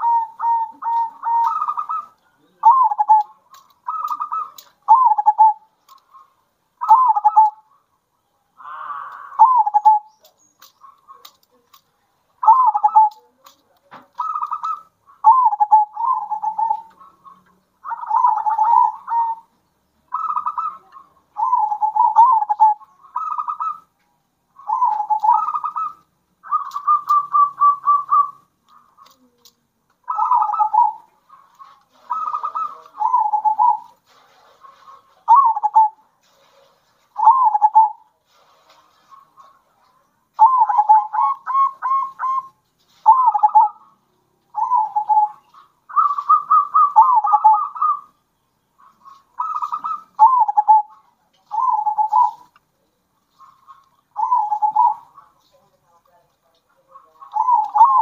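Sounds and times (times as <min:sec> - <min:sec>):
doves cooing: 0:00.0 - 0:23.9, 0:24.5 - 0:55.5, 0:56.6 - 0:58.0.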